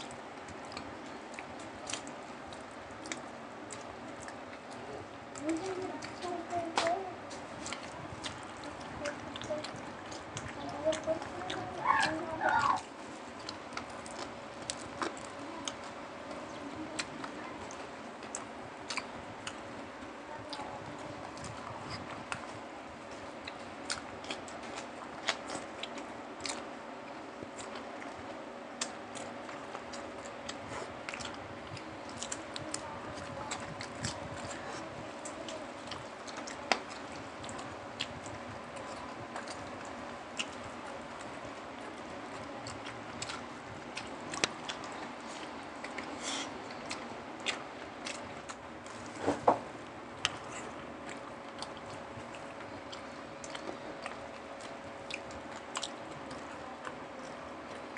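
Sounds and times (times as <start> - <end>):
chewing and lip smacks: 0.0 - 57.9
faint steady hum: 0.0 - 57.9.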